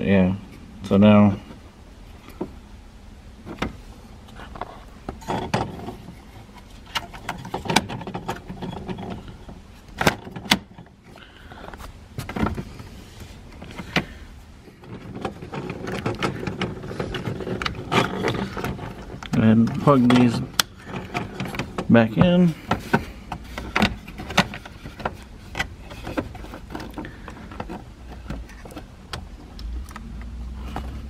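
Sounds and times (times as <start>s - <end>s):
rustling: 3.4s - 31.0s.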